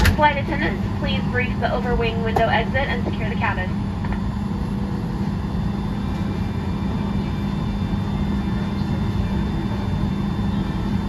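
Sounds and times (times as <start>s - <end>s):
airliner cabin drone: 0.0s - 11.0s
faint high whine: 0.8s - 11.0s.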